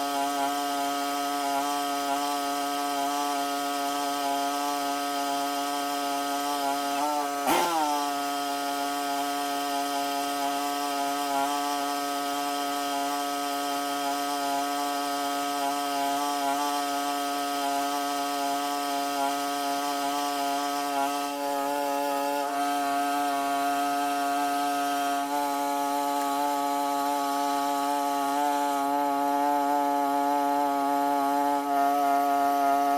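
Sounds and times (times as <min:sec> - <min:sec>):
small petrol engine at high revs: 0:00.0 - 0:32.9.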